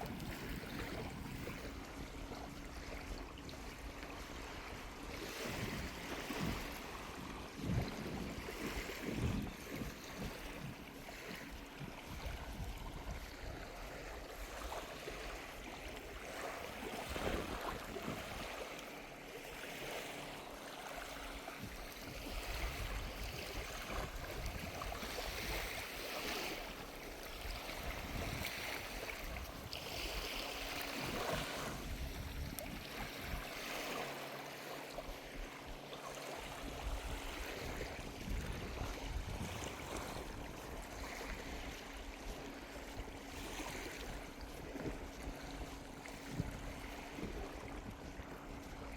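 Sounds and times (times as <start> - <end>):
wind buffeting microphone: 0.0 - 18.7, 21.1 - 34.0, 36.4 - 48.9
ocean waves washing on beach: 0.0 - 48.9.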